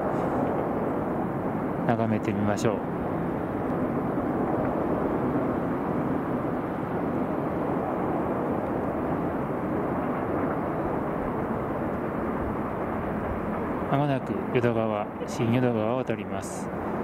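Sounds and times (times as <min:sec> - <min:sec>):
city ambience rush: 0:00.0 - 0:17.0.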